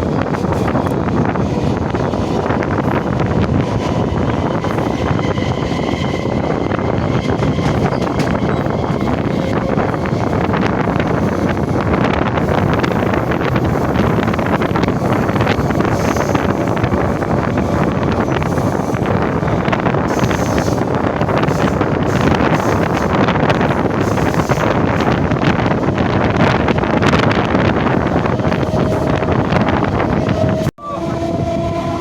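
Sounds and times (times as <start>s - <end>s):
train rumbling at high speed: 0.0s - 32.0s
wind buffeting microphone: 0.0s - 32.0s.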